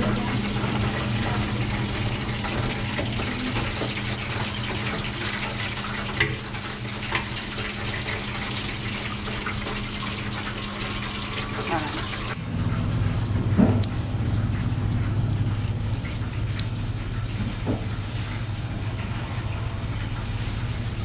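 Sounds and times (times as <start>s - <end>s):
hot oil sizzling and bubbling: 0.0s - 12.4s, 14.1s - 21.0s.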